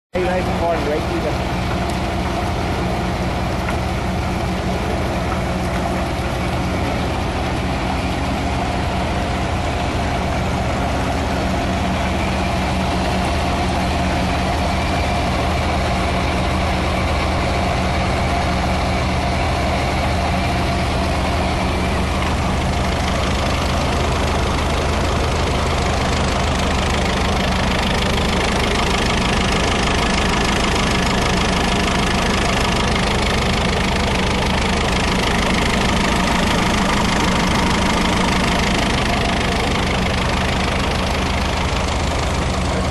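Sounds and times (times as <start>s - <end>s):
tractor engine running: 0.1s - 42.9s.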